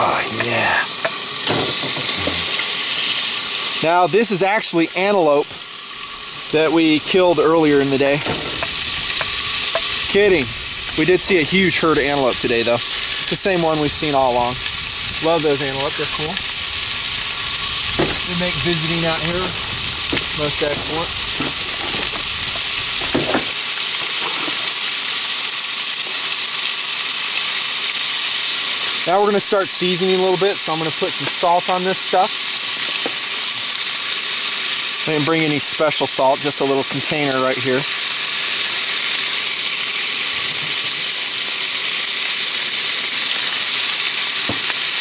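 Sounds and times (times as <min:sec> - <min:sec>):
meat sizzling in hot oil: 0:00.0 - 0:45.0.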